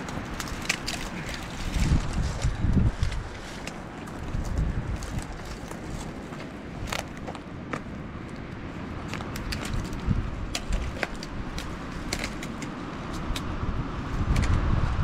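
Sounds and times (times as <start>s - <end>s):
dry branches cracking and snapping: 0.0s - 14.7s.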